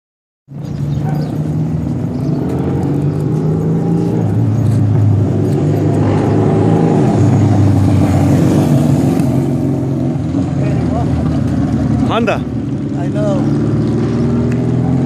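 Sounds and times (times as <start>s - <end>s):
vehicle engine running: 0.5s - 15.0s.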